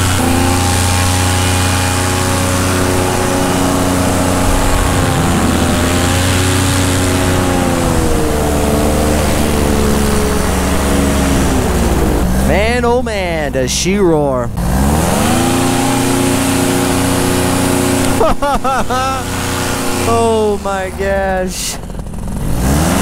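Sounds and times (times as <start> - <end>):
paramotor engine roaring: 0.0 - 23.0.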